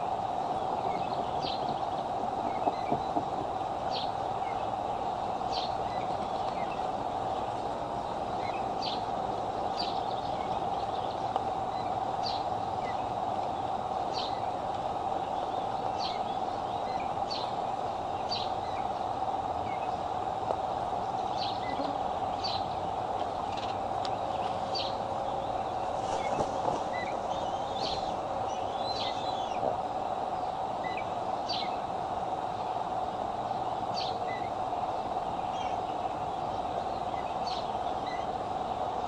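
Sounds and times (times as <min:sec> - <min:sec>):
bird chirping: 0:00.0 - 0:20.1, 0:21.0 - 0:29.7, 0:30.4 - 0:31.9, 0:33.5 - 0:38.4
microphone hiss: 0:00.0 - 0:39.0.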